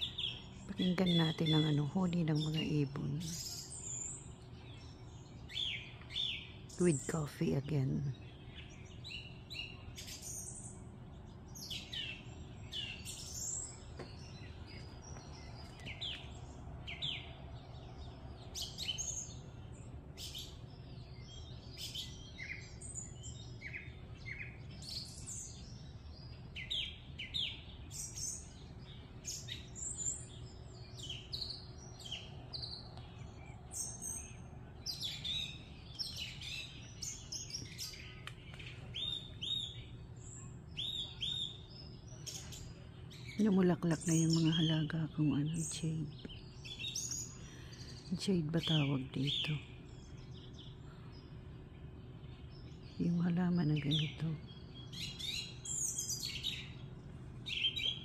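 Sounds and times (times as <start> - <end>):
birds chirping and singing: 0.0 - 58.0
faint low background hum: 0.0 - 58.0.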